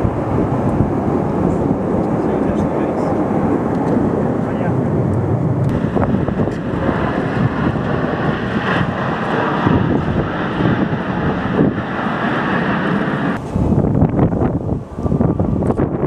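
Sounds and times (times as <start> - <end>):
jet roar: 0.0 - 16.0
wind buffeting microphone: 0.0 - 16.0.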